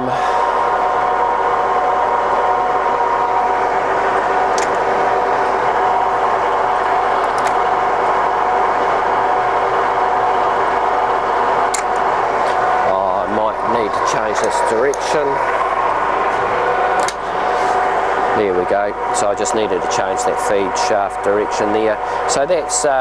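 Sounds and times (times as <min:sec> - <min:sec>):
lathe whining: 0:00.0 - 0:23.0.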